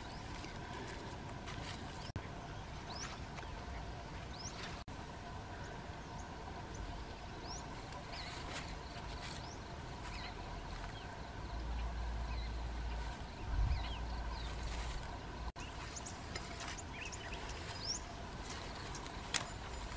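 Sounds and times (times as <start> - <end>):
small birds chirping: 0.0 - 19.9
steady faint hum: 0.0 - 19.9
wind rumble on microphone: 0.0 - 19.9.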